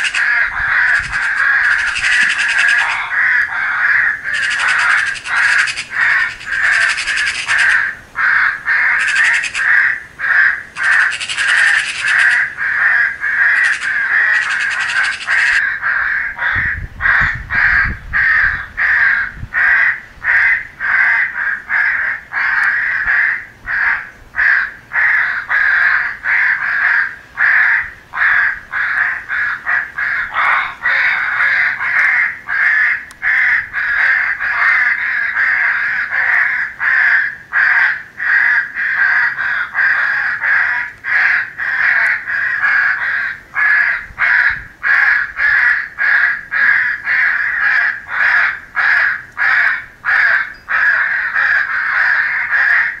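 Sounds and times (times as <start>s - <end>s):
crows cawing: 0.0s - 53.0s.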